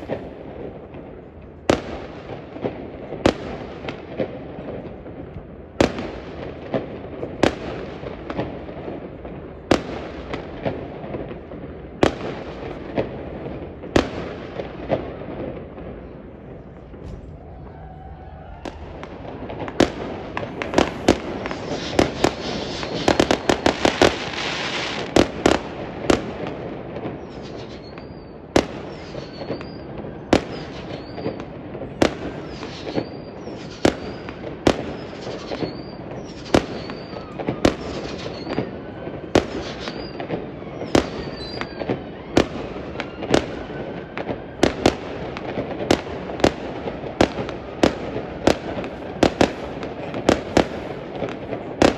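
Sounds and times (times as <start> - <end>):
fireworks high whistle: 0.0 - 8.7, 14.0 - 51.9
fireworks bangs: 0.0 - 51.9.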